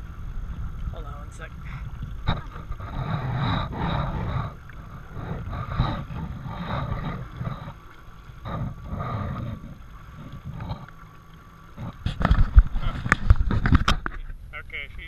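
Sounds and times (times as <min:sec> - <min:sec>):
wind and spray buffeting microphone: 0:00.0 - 0:11.0, 0:11.6 - 0:15.0.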